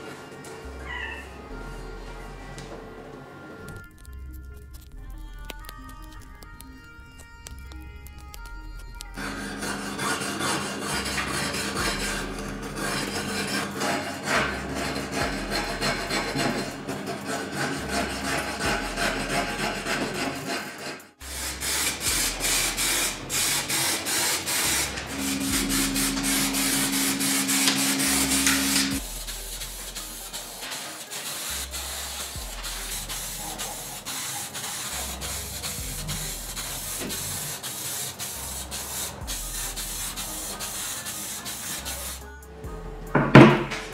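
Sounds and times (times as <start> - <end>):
abrasive rubbing on metal: 3.7 - 43.9.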